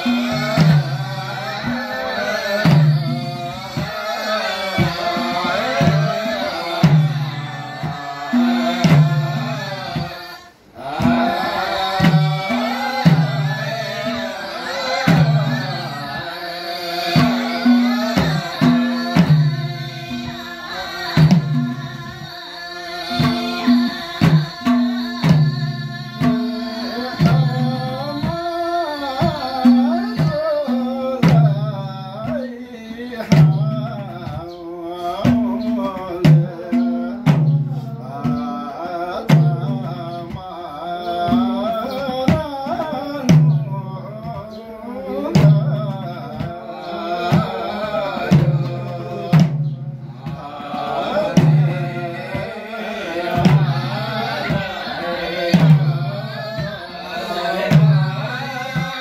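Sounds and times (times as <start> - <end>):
barrel hand drums: 0.0 - 59.0
men singing together: 0.0 - 59.0.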